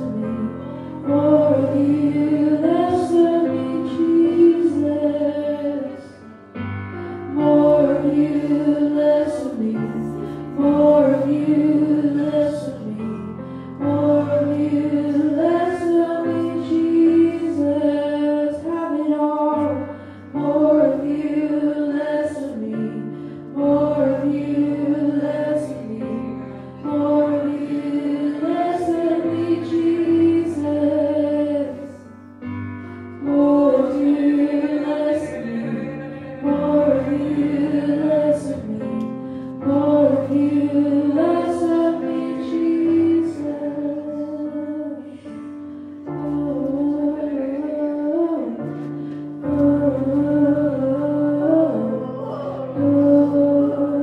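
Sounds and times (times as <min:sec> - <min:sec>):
voices singing a worship song: 0:00.0 - 0:54.0.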